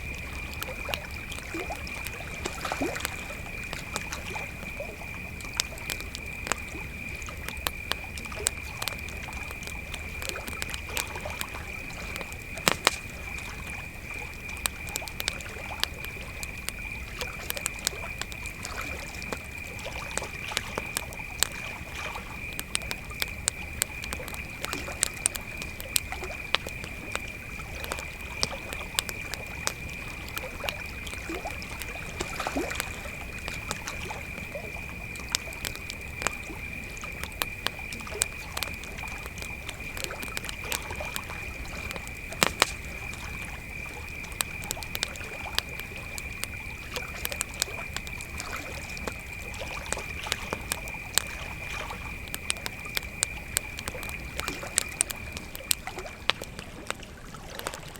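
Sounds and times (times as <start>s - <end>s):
campfire crackling and popping: 0.0s - 57.9s
crickets chirping: 0.0s - 57.9s.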